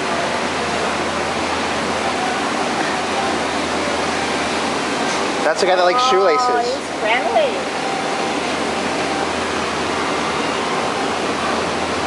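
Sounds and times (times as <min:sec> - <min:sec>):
falling water rushing: 0:00.0 - 0:12.0.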